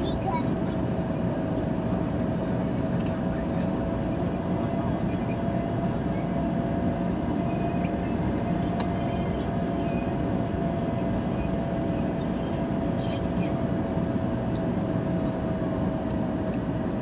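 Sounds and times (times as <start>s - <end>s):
airliner engine rumble: 0.0s - 17.0s.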